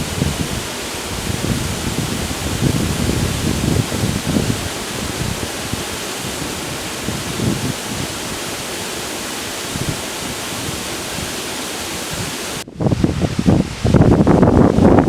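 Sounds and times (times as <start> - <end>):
river water rushing: 0.0 - 12.6.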